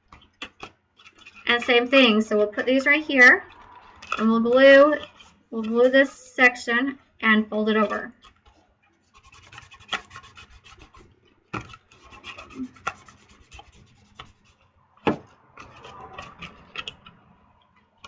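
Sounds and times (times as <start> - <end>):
paper rubbing and rustling: 0.0 - 2.9, 3.6 - 6.2, 7.7 - 17.0.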